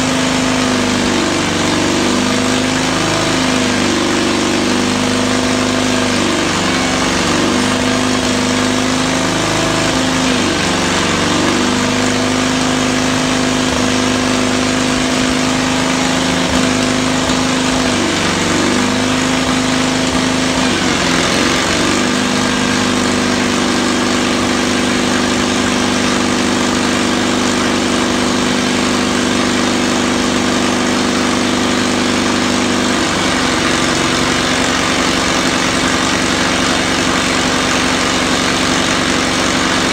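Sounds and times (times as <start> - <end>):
crawler engine running: 0.0 - 39.9.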